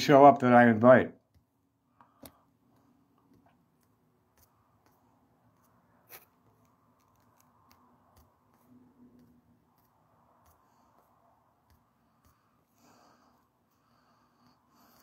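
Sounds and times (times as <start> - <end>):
fingertips tapping phone screen: 1.3 - 15.0.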